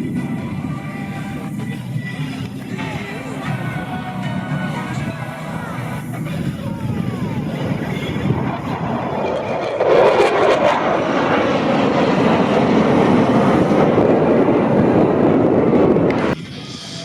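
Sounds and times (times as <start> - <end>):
aircraft roaring overhead: 0.0 - 17.0.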